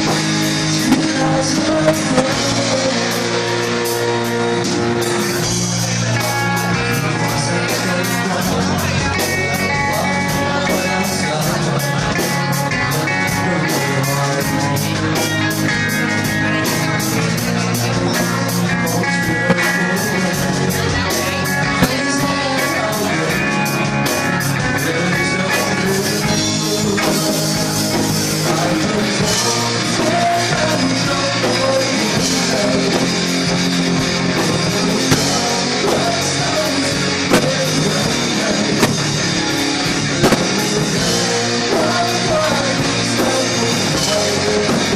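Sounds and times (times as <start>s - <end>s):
person singing: 0.0s - 44.9s
rock music with drums: 0.0s - 44.9s.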